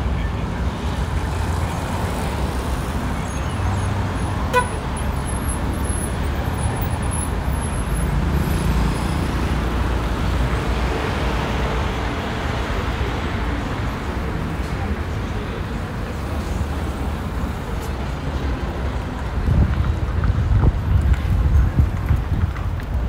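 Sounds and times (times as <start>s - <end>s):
cars and buses passing: 0.0s - 23.0s.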